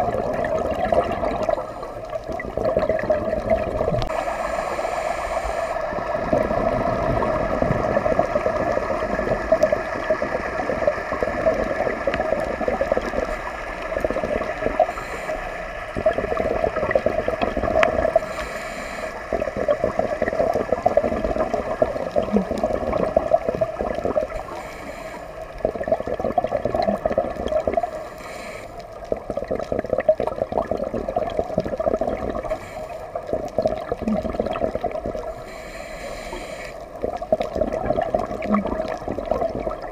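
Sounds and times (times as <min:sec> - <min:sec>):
exhaled bubbles gurgling underwater: 0:00.0 - 0:39.9
steady underwater hiss: 0:00.0 - 0:39.9.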